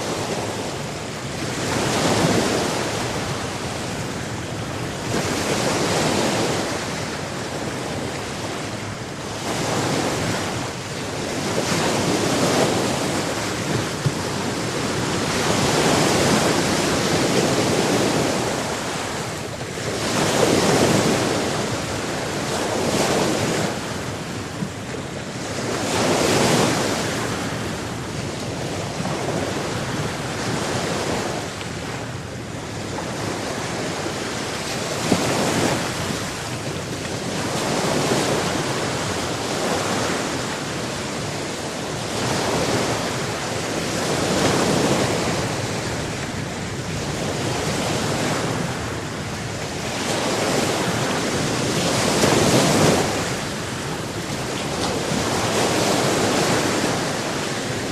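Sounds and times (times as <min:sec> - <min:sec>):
waves breaking on shore: 0:00.0 - 0:57.9.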